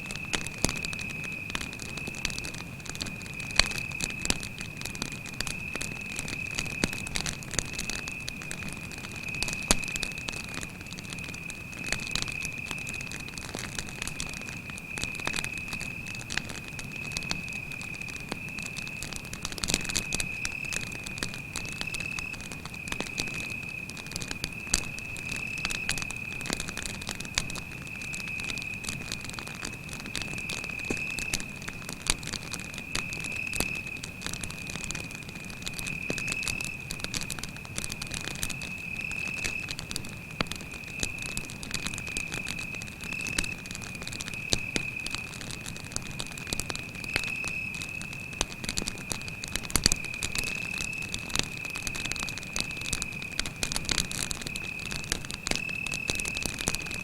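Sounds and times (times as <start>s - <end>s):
campfire crackling and popping: 0.0s - 57.0s
cricket trilling: 0.1s - 57.0s.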